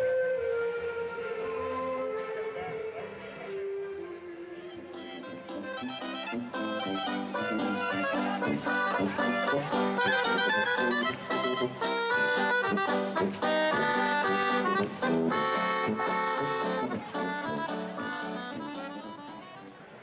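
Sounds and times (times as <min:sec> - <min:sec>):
accordion playing held chords: 0:01.6 - 0:20.0.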